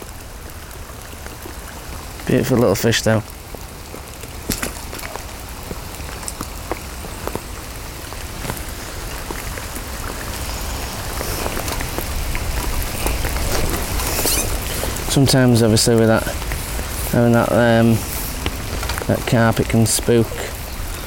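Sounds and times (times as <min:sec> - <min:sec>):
heavy rain hiss: 0:00.0 - 0:21.0
raindrops tapping plastic bag: 0:00.0 - 0:21.0.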